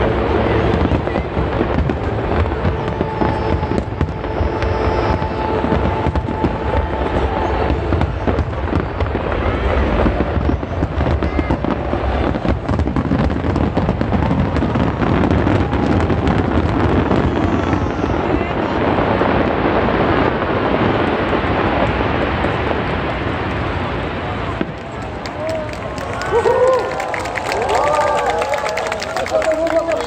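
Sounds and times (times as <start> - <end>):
fireworks bursting and crackling: 0.0 - 30.0.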